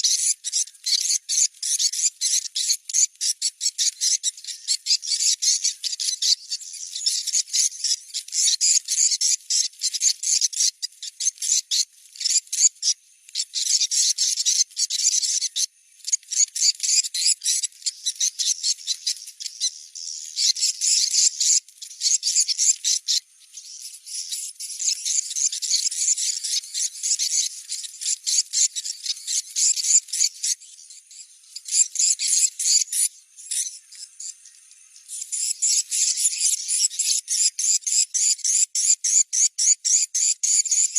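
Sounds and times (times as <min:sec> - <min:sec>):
swiftlets twittering chirps: 0:00.0 - 0:40.9.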